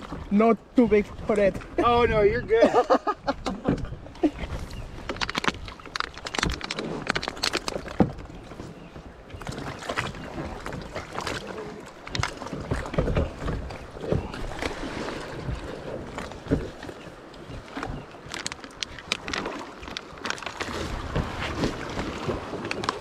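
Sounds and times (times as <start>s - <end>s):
water sloshing: 0.0s - 23.0s.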